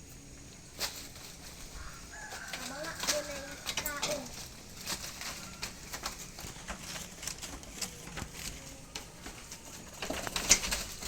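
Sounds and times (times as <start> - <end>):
goats clicking and knocking: 0.7 - 11.0.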